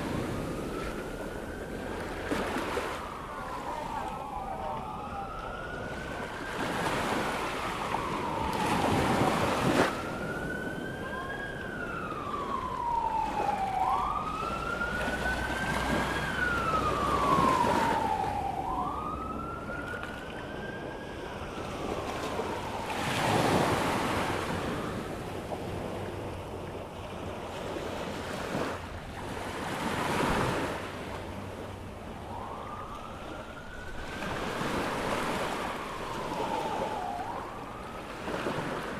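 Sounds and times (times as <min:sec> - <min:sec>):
emergency siren wailing: 0:00.0 - 0:38.9
waves breaking on a beach: 0:00.0 - 0:38.9.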